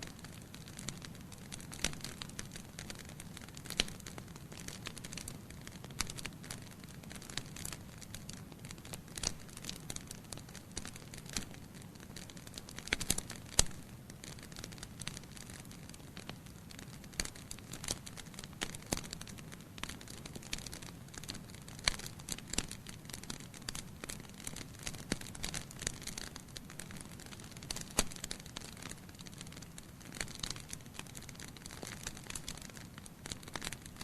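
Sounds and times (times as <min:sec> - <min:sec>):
low hiss of fire: 0:00.0 - 0:34.0
wood fire crackling and popping: 0:00.0 - 0:34.0.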